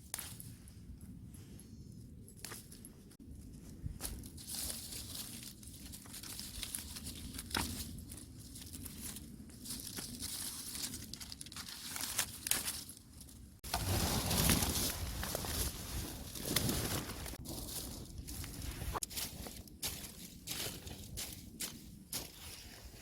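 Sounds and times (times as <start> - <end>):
rustling and crackling: 0.0 - 23.0.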